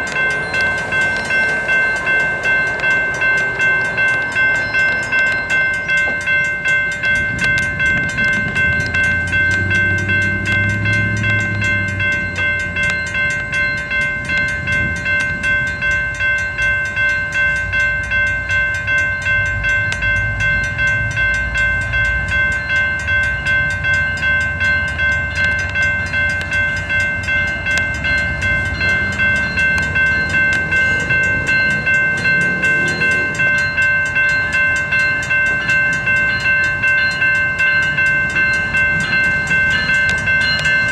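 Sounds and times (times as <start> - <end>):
locomotive rumble: 0.0 - 40.9
railroad bell ringing: 0.0 - 40.9.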